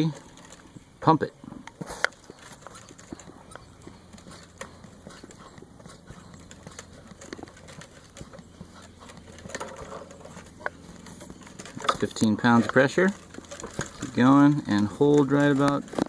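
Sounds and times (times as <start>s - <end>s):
hand vacuum pump clicking: 1.6s - 16.0s.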